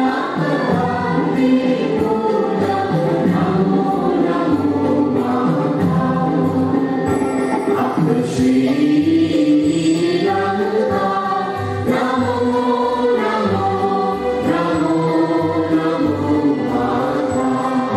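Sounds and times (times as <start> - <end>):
choir singing slow song: 0.0 - 17.9.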